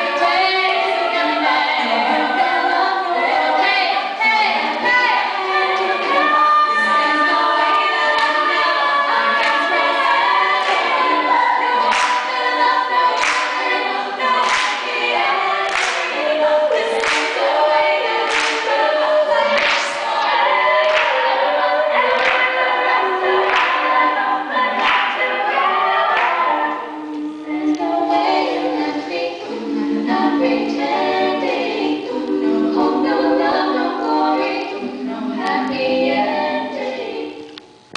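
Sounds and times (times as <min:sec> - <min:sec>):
women singing in close harmony: 0:00.0 - 0:37.6.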